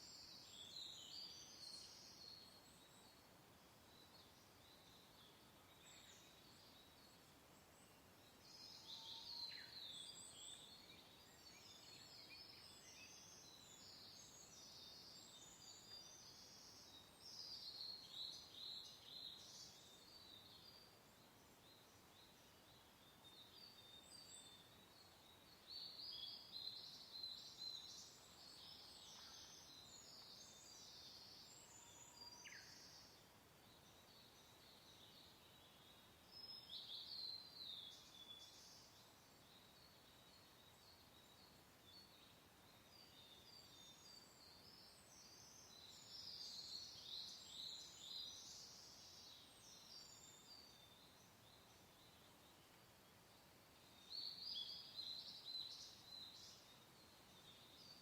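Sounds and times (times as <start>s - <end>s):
soft wind hiss: 0.0s - 58.0s
songbirds chirping: 0.0s - 58.0s.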